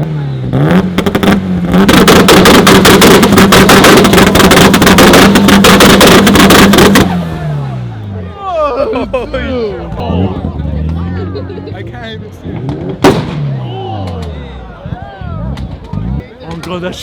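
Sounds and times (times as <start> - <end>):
car engine revving: 0.0 - 16.3
exhaust crackle: 0.0 - 17.0.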